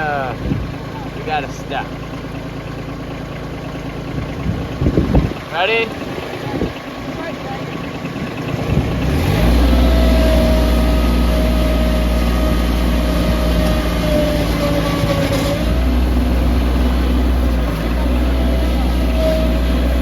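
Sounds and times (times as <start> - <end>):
engine running with whine: 0.0 - 20.0.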